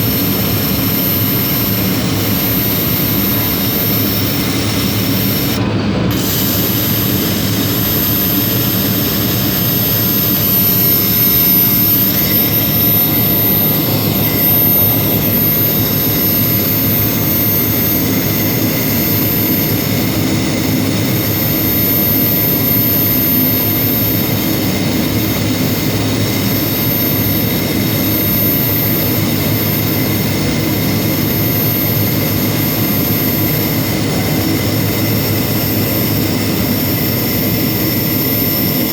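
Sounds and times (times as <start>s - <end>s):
faint high whines: 0.0s - 38.9s
laser engraver whirring: 0.0s - 38.9s.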